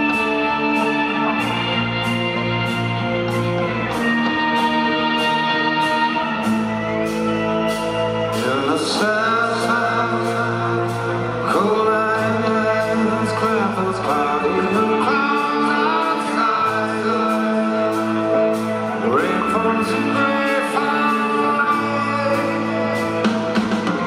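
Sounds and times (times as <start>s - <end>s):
drums: 0.0s - 24.0s
electric guitars: 0.0s - 24.0s
man singing lead vocal: 0.0s - 24.0s.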